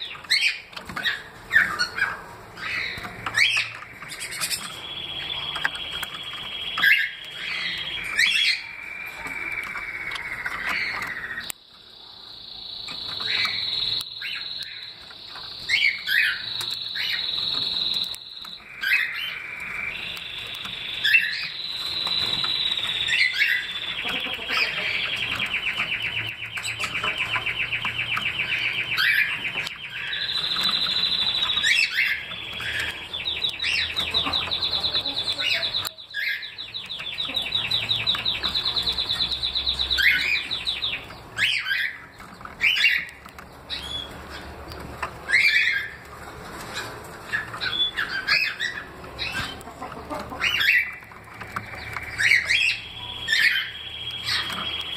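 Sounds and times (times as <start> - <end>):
bird trilling: 0.0 - 11.5, 12.4 - 44.5, 45.2 - 46.0, 46.7 - 54.9.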